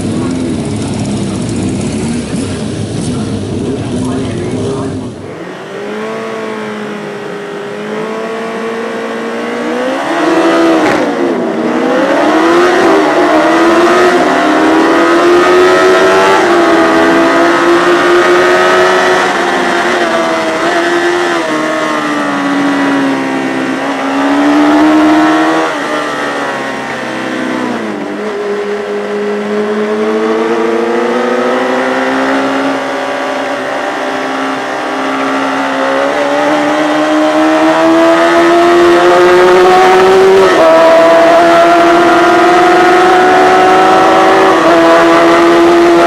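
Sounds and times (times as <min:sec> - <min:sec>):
racing motorcycle engine: 0:00.0 - 0:46.0.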